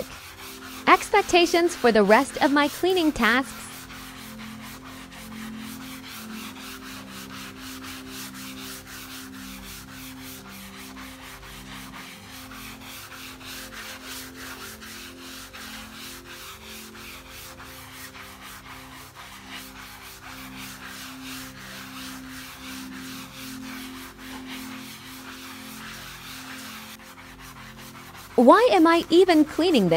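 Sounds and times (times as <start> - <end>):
sponge scrubbing a mouse pad: 0.0 - 29.9.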